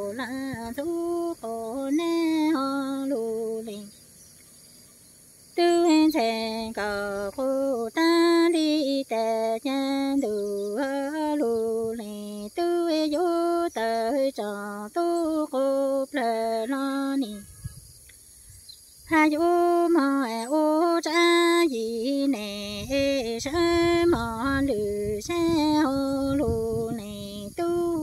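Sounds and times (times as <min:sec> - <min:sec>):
woman singing unaccompanied: 0:00.0 - 0:04.2, 0:05.2 - 0:17.8, 0:19.0 - 0:28.0.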